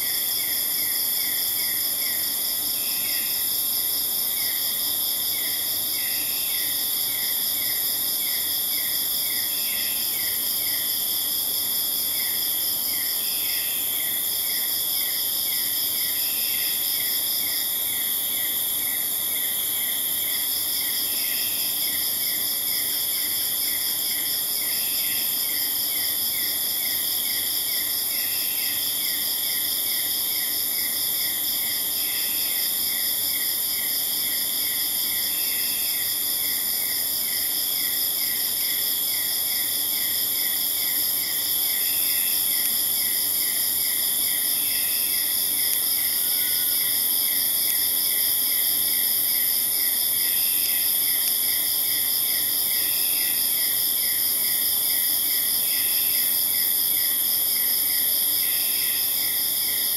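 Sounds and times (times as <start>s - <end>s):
high-pitched insect trills: 0.0s - 59.9s
low insect chirp: 0.0s - 59.9s.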